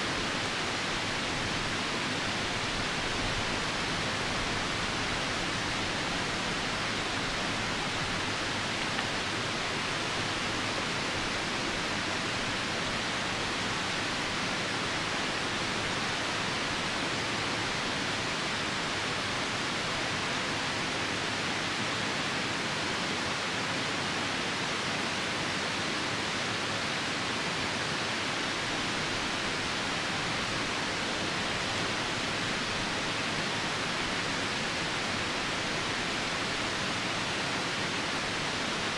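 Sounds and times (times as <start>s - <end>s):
rain falling: 0.0s - 21.0s, 27.1s - 38.9s
river rushing: 0.0s - 38.9s.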